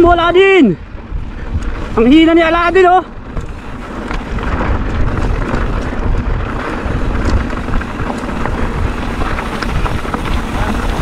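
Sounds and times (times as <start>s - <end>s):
mountain bike rumbling on trail: 0.0s - 11.0s
wind buffeting microphone: 0.0s - 11.0s
rattles and knocks from bike: 0.8s - 11.0s.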